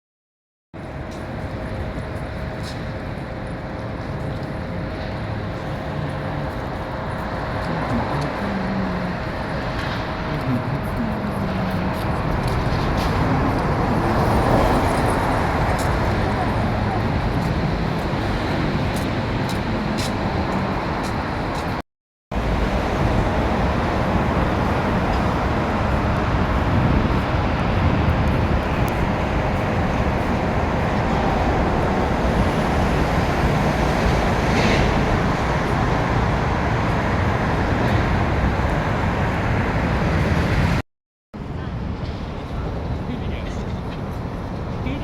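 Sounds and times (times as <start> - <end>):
outdoor background noise: 0.8 - 40.8, 41.4 - 45.0.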